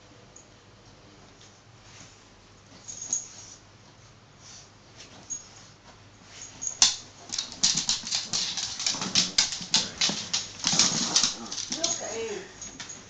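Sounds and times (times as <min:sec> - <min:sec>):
dog snuffling and scuffling: 0:01.8 - 0:13.0.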